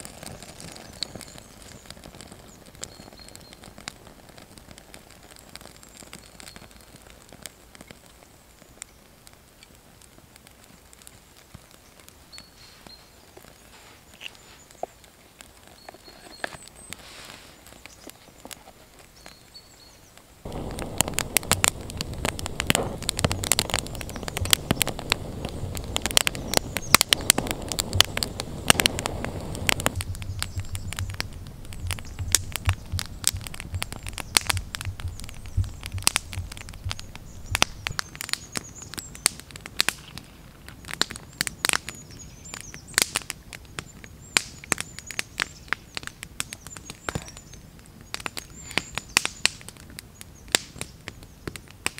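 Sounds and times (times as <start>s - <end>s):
campfire crackling and popping: 0.0s - 51.9s
low rush of fire: 0.0s - 51.9s.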